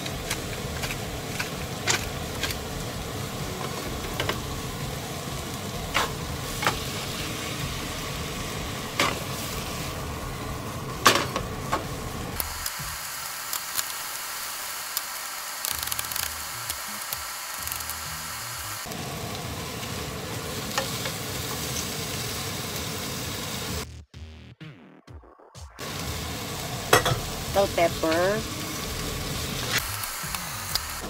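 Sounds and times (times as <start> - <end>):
food sizzling in a pan: 0.0 - 23.8, 25.8 - 31.0.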